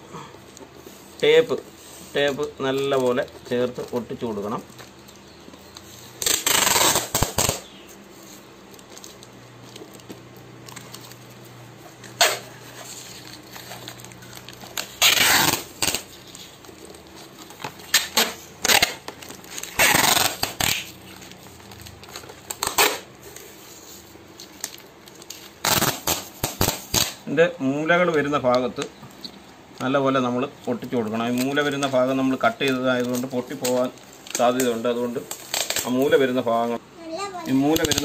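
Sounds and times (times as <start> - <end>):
packing tape pulled off roll: 0.9 - 27.2, 32.6 - 36.4, 37.5 - 38.0.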